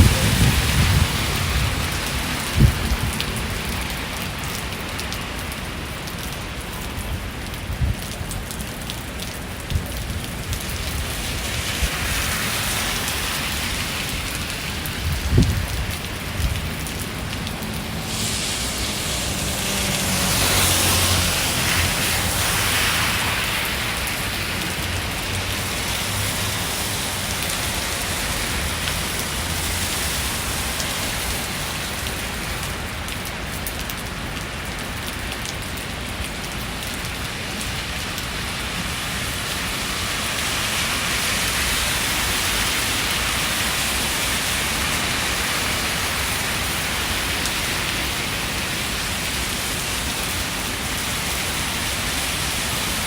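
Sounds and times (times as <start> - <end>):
rain falling on street: 0.0 - 53.0.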